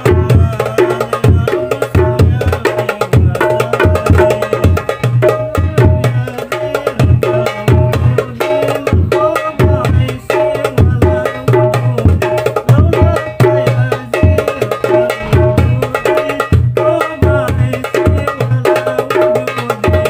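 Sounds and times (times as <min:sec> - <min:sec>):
hand drums playing rhythm: 0:00.0 - 0:20.0.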